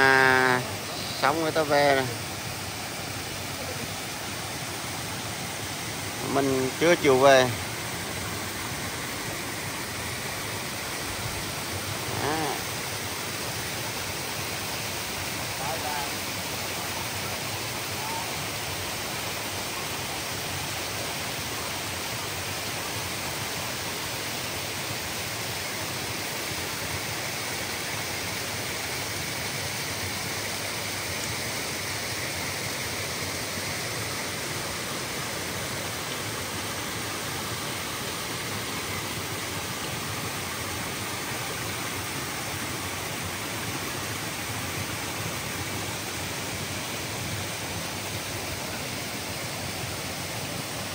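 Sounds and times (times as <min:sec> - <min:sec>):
stream rushing over stones: 0:00.0 - 0:50.9.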